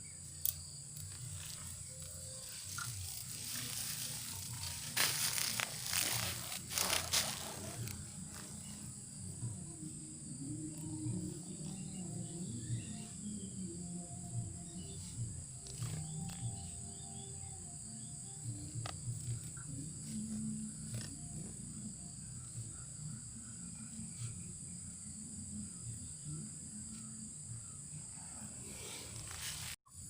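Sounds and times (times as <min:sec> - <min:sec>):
high insect buzz: 0:00.0 - 0:30.0.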